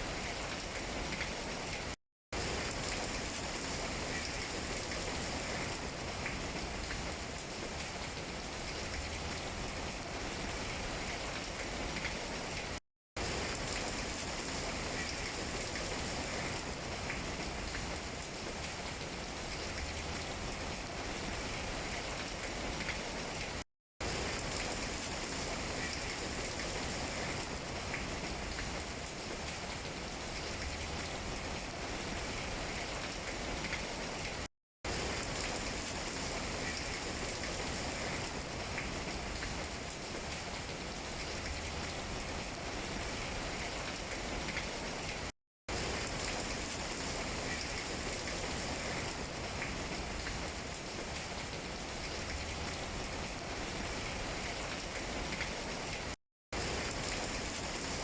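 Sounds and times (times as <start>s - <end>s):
rain pattering on leaves: 0.2s - 58.0s.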